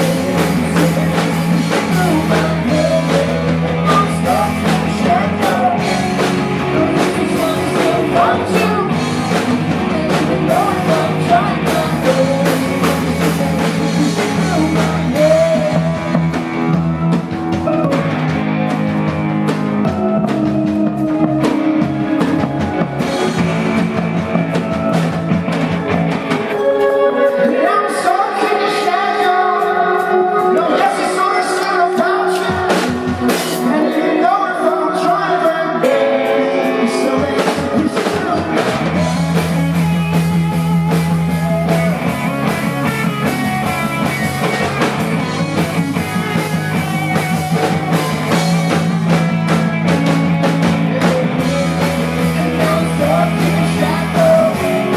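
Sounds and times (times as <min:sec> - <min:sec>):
person singing: 0:00.0 - 0:18.4, 0:19.7 - 0:54.9
bass guitar: 0:00.0 - 0:54.9
live rock band playing: 0:00.0 - 0:54.9.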